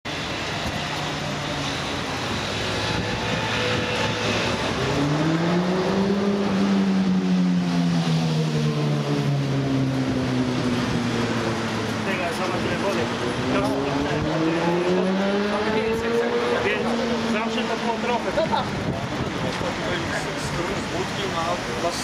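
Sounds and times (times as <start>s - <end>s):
engine passing by: 0.2s - 22.0s.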